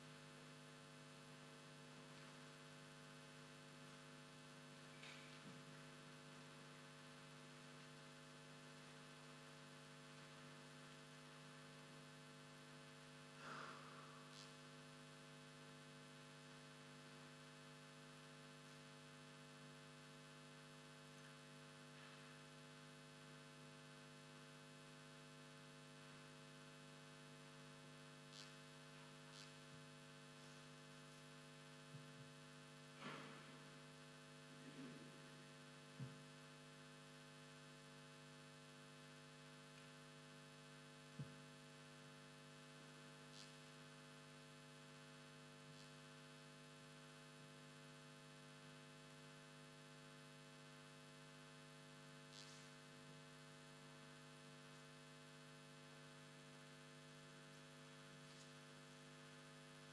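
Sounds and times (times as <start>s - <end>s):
steady electrical hum: 0.0s - 59.9s.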